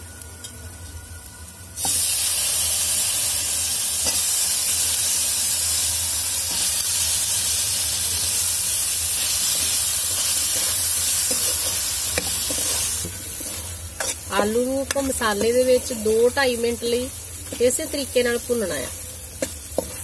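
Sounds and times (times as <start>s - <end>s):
potatoes sizzling in hot fat: 0.0s - 20.0s.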